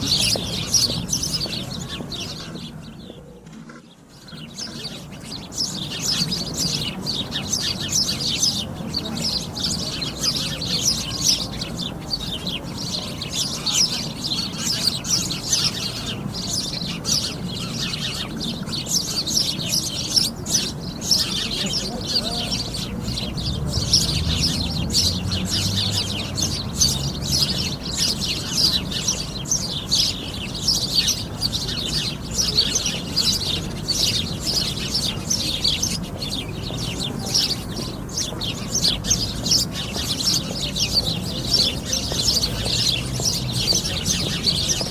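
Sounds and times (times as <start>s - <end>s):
sparrows chirping: 0.0s - 44.9s.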